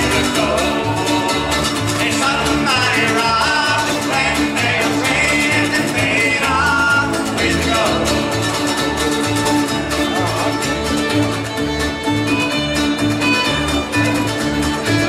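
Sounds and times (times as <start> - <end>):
fiddle: 0.0 - 15.0
mandolins: 0.0 - 15.0
strummed acoustic guitars: 0.0 - 15.0
upright bass: 0.0 - 15.0.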